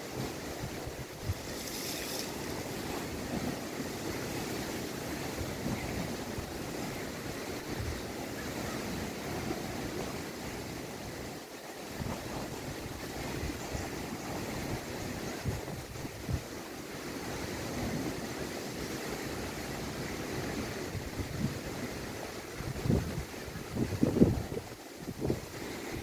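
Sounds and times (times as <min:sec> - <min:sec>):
lake waves breaking: 0:00.0 - 0:26.0
wind buffeting microphone: 0:00.2 - 0:11.1, 0:11.9 - 0:26.0.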